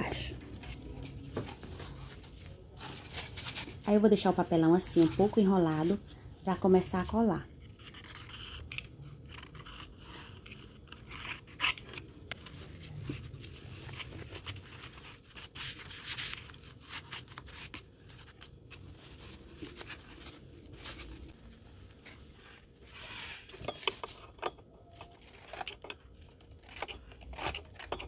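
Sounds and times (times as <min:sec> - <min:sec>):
cardboard and fabric rustling: 0:00.0 - 0:28.0.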